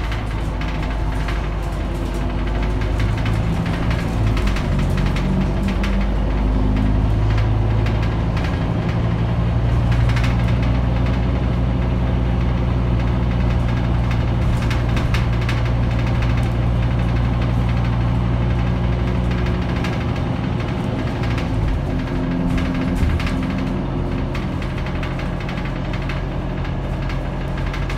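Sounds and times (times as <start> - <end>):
bus diesel engine hum: 0.0 - 27.9
light rattles: 0.0 - 27.9.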